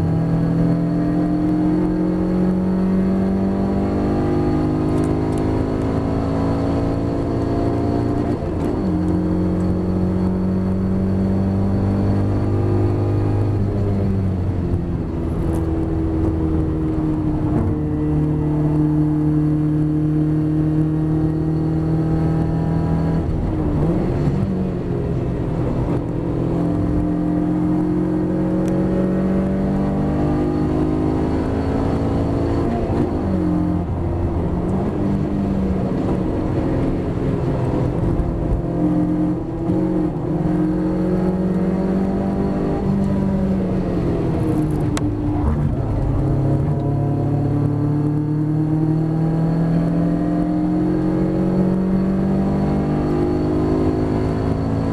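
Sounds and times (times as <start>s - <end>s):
race car engine at high revs: 0.0s - 54.9s.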